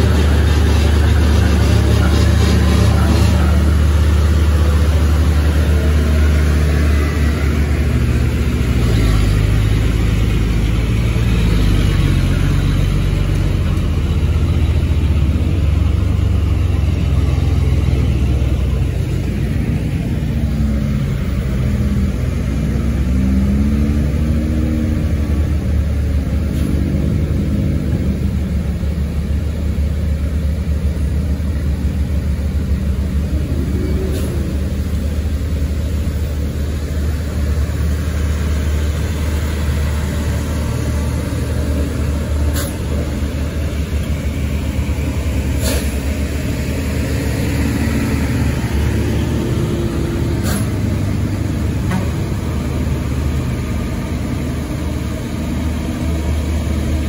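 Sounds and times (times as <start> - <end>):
diesel truck engine drone: 0.0 - 57.0.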